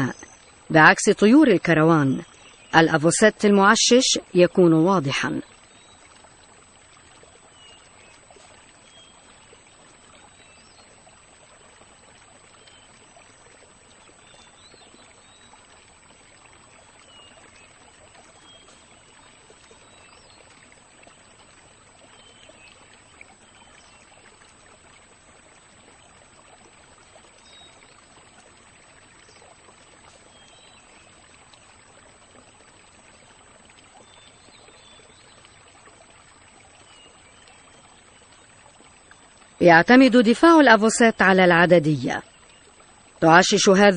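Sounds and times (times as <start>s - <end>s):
wetland ambient hiss: 0.0s - 43.9s.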